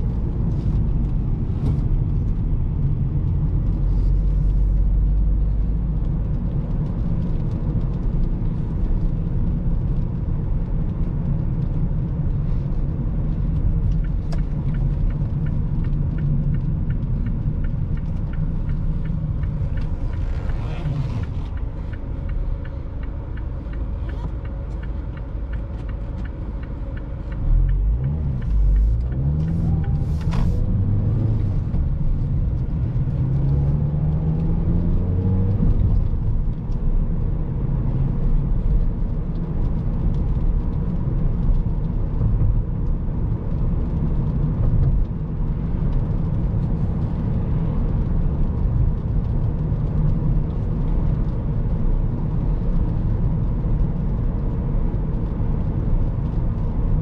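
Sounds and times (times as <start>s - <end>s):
car engine accelerating: 0.0s - 57.0s
tyre and road noise: 0.0s - 57.0s.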